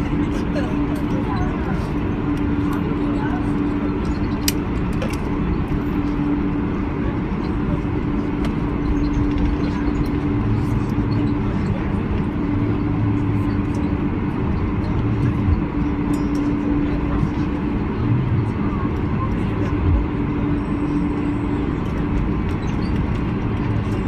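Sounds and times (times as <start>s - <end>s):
airliner rumble: 0.0s - 24.0s.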